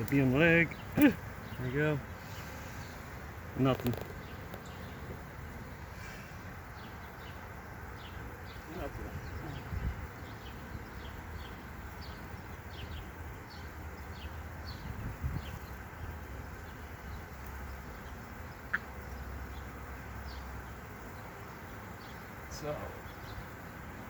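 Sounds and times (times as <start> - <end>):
honeybees buzzing: 0.0 - 24.0
small birds chirping: 0.0 - 24.0.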